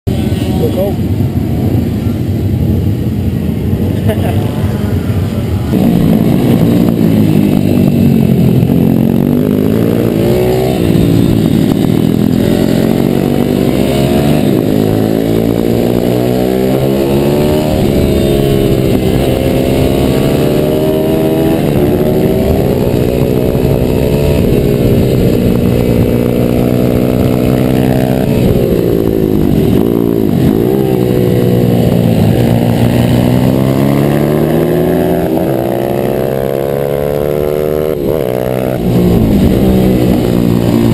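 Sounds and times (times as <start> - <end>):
motorbike engine revving: 4.0 - 40.9.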